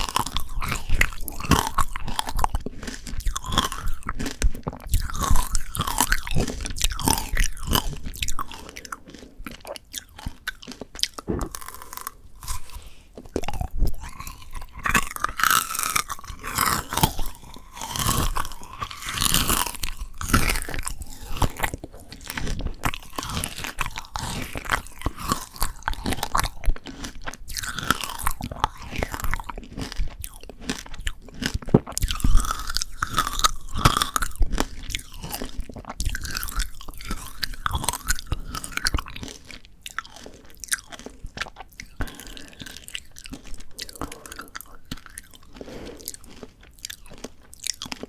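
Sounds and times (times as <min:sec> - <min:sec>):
candy glaze crunching in teeth: 0:00.0 - 0:48.0
wet chewing: 0:00.0 - 0:48.0.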